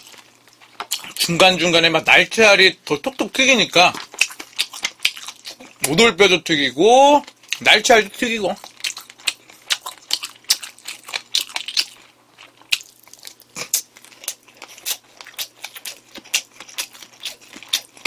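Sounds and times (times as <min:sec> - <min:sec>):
crunchy chewing: 0:00.0 - 0:01.8, 0:02.8 - 0:06.1, 0:07.1 - 0:18.0.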